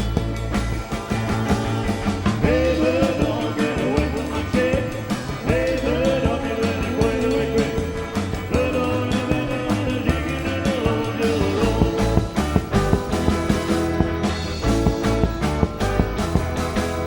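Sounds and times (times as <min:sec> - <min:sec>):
rock and roll band playing: 0:00.0 - 0:17.0
steady drum beat: 0:00.0 - 0:17.0.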